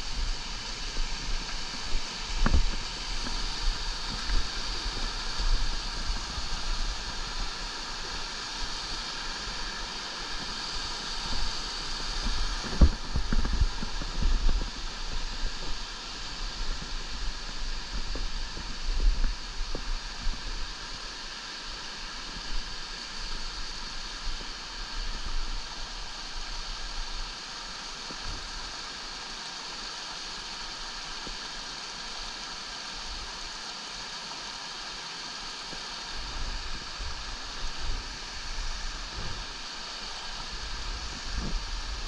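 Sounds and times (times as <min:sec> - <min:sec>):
water rushing over rocks: 0:00.0 - 0:42.0.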